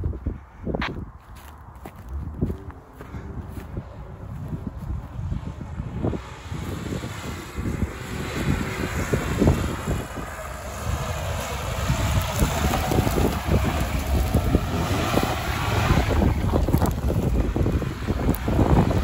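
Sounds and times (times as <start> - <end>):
wind buffeting microphone: 0.0 - 19.0
car engine running: 1.8 - 19.0.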